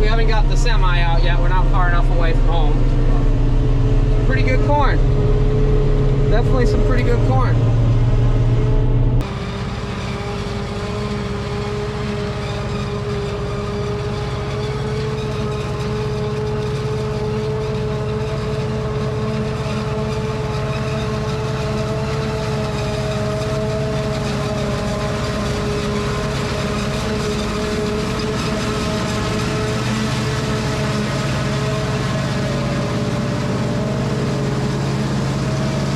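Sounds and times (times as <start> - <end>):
heavy engine drone: 0.0 - 35.9
machinery whine: 0.0 - 35.9.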